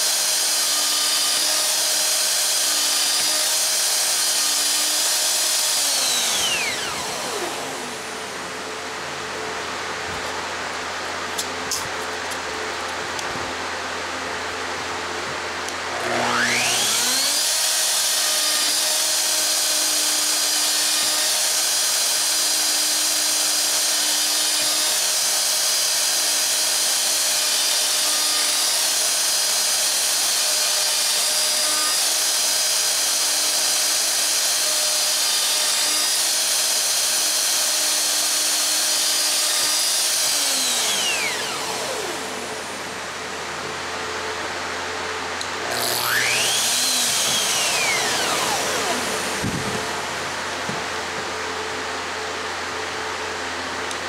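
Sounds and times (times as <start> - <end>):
router whining while cutting wood: 0.0 - 54.0.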